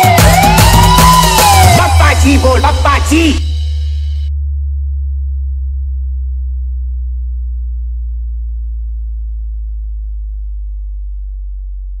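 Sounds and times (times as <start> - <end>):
deep sub-bass tone: 0.0 - 12.0.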